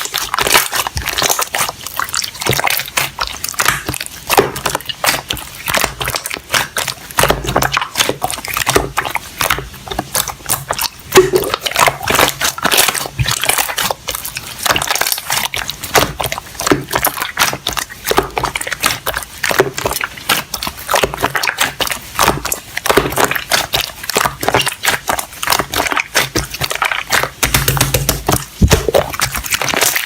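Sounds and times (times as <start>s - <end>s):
crunching and crackling: 0.0s - 30.0s.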